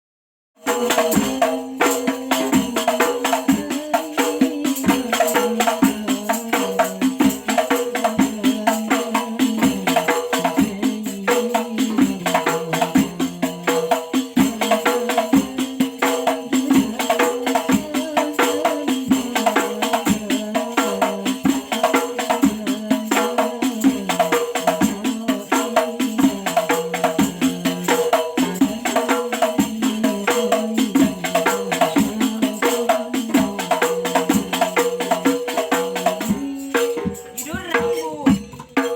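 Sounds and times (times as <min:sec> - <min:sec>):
frame drums beating fast rhythm: 0:00.6 - 0:38.9.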